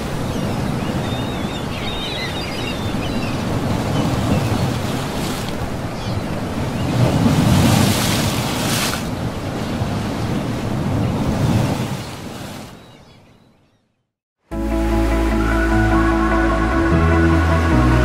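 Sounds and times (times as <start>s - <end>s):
waves washing in: 0.0s - 12.8s, 14.5s - 18.0s
wind: 0.0s - 18.0s.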